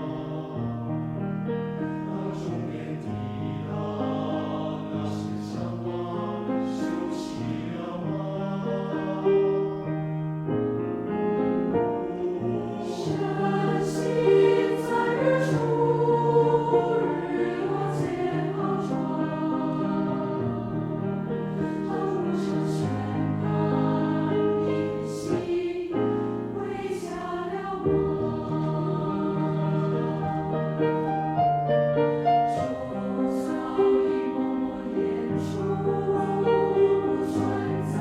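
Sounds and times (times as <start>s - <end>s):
mixed choir singing: 0.0s - 10.2s, 11.4s - 38.0s
piano accompaniment: 0.0s - 38.0s.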